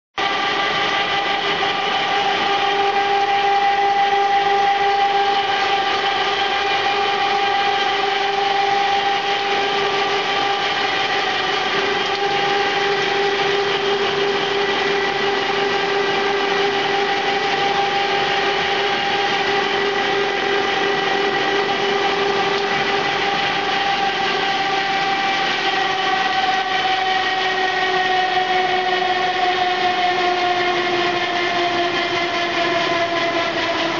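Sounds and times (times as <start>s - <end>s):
machinery whining over a hum: 0.2s - 33.9s.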